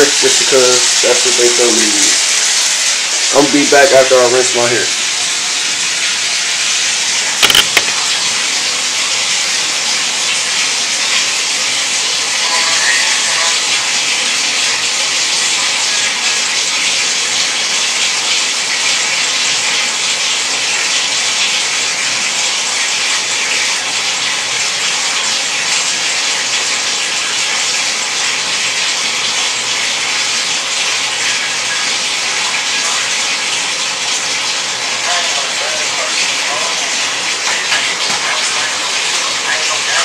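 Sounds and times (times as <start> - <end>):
hair being rinsed: 0.0 - 40.0
water running from a tap: 0.0 - 40.0.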